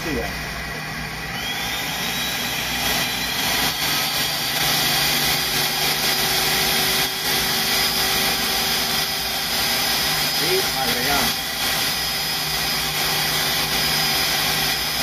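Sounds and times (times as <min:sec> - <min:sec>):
food processor motor grinding: 0:00.0 - 0:15.0.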